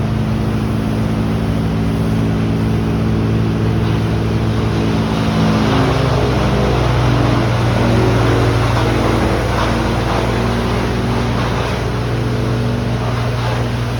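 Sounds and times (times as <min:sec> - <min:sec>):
engine humming steadily: 0:00.0 - 0:13.9.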